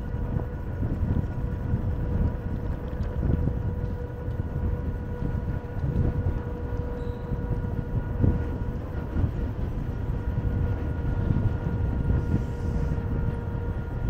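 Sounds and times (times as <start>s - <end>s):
road noise: 0.0s - 14.0s
steady high whine: 0.0s - 14.0s
wind rumble on microphone: 0.0s - 14.0s.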